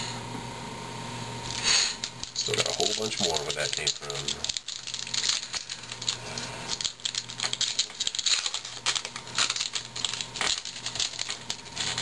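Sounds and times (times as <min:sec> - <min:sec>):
wrapper tearing and crinkling: 0:01.5 - 0:12.0.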